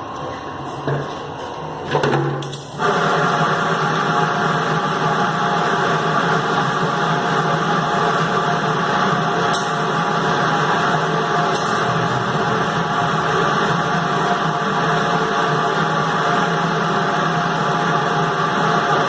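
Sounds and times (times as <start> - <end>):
loud steady machine hum: 0.0 - 19.0.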